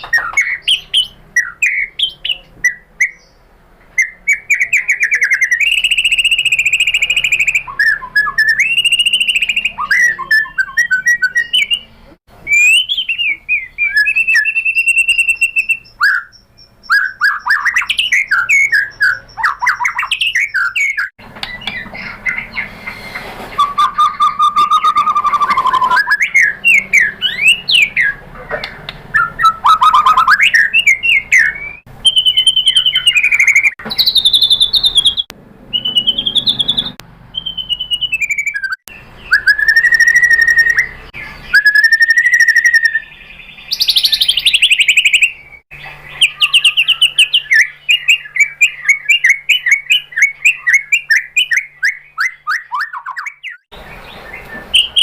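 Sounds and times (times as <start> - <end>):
bird singing varied phrases: 0.0 - 55.0.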